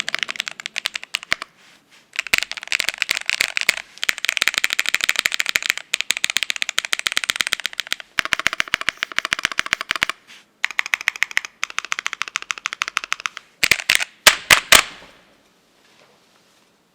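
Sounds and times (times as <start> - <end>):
mechanical keyboard typing: 0.0 - 1.5, 2.2 - 14.9.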